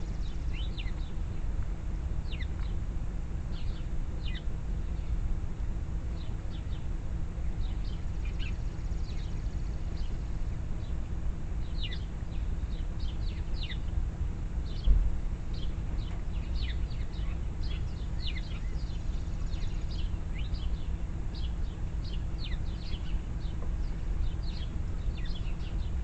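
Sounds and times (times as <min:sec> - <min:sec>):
small songbirds chirping: 0:00.0 - 0:26.0.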